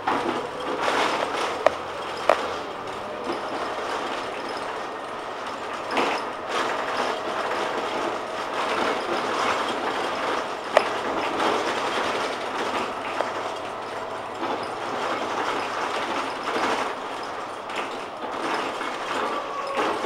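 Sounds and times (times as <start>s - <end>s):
bus body rattling and clicking: 0.0s - 20.0s
bus running noise: 0.0s - 20.0s.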